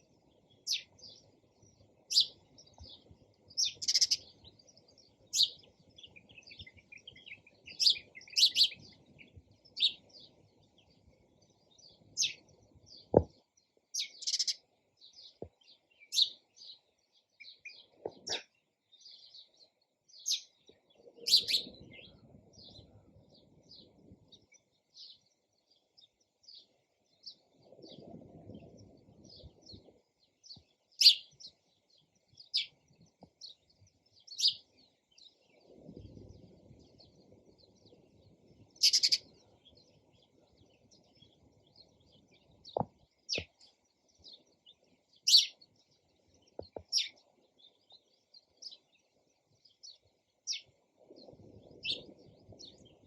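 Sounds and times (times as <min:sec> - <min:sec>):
sparrows chirping: 0:00.0 - 0:53.0.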